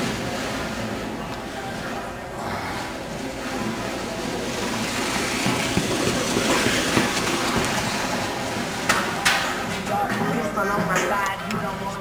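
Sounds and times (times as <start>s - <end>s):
sled scraping along rubber track: 0.0s - 12.0s.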